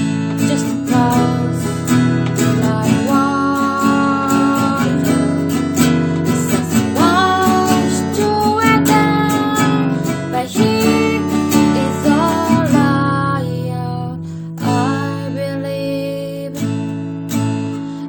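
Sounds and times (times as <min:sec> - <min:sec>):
person singing slow melody: 0:00.0 - 0:17.2
acoustic guitar strumming: 0:00.0 - 0:18.0.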